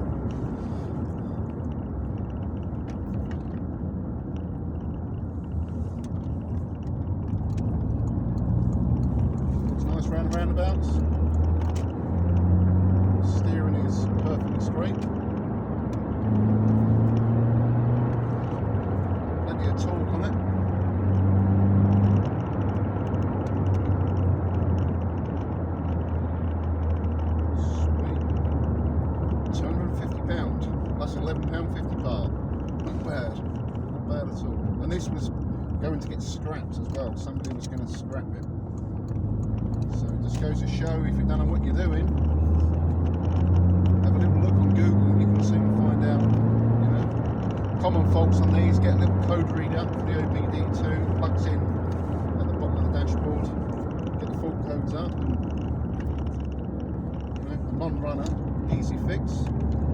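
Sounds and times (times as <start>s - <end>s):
car engine running: 0.0s - 59.9s
low road rumble: 0.0s - 59.9s.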